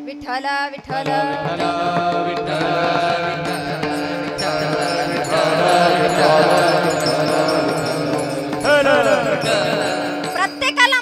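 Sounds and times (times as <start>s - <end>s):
harmonium: 0.0s - 11.0s
voices chanting in unison: 0.9s - 10.6s
percussion beat: 0.9s - 11.0s.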